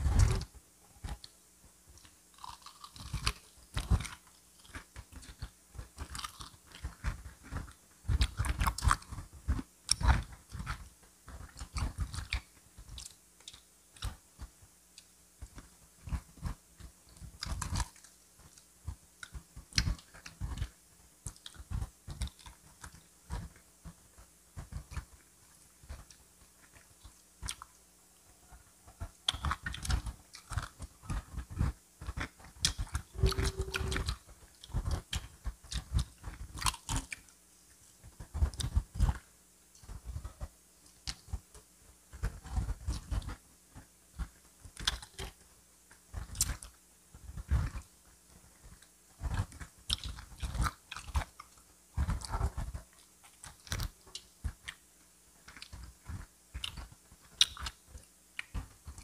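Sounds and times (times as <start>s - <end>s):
crunchy chewing: 0.0s - 24.0s, 24.6s - 59.0s.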